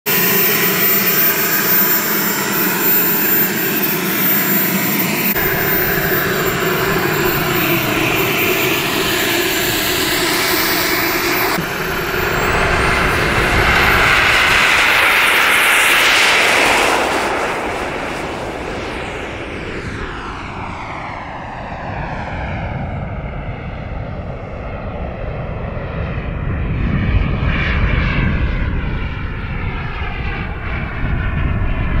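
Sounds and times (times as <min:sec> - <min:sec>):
jet turbine whining: 0:00.0 - 0:32.0.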